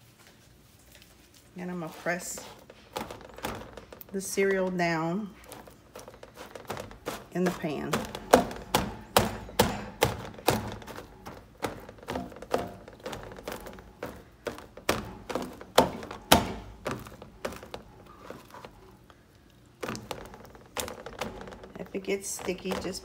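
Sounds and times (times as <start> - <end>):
hands pressing cereal into pan: 1.8 - 23.0.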